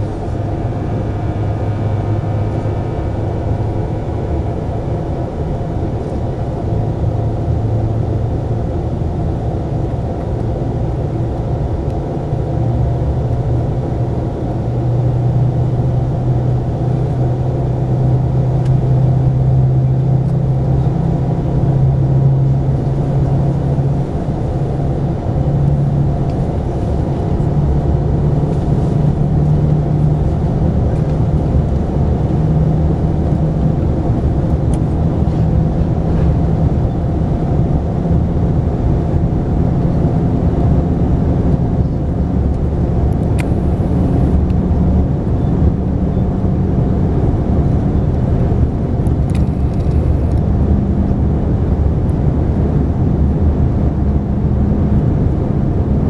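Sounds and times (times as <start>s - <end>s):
train cabin rumble with hum: 0.0s - 56.0s.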